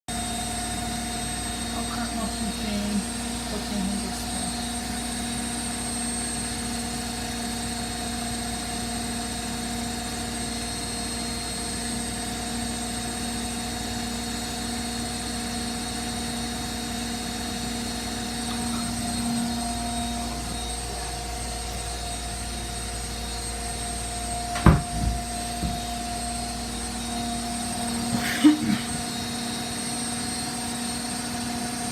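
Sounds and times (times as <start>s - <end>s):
washing machine spinning: 0.1s - 31.9s.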